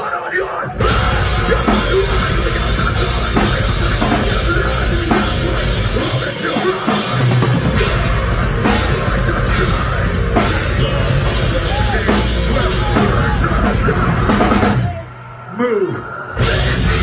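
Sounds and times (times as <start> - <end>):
heavy guitars: 0.0 - 17.0
metalcore band playing live: 0.0 - 17.0
pounding drums and cymbals: 0.6 - 15.0, 16.4 - 17.0.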